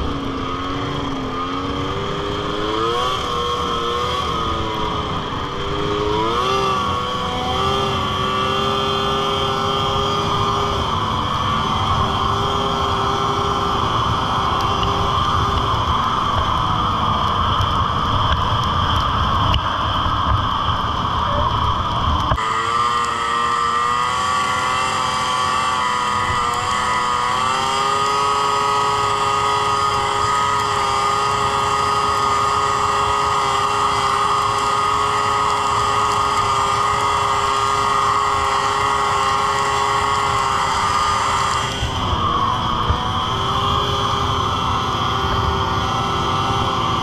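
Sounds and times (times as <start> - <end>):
snowmobile engine whine: 0.0 - 47.0.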